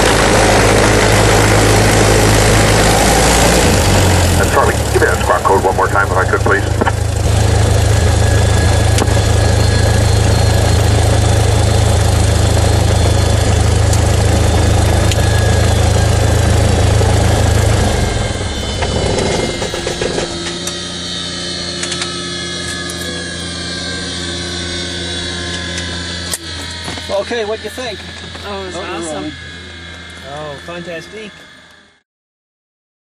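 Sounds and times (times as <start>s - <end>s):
piston engine idling: 0.0s - 31.7s
whine falling in pitch: 0.0s - 32.0s.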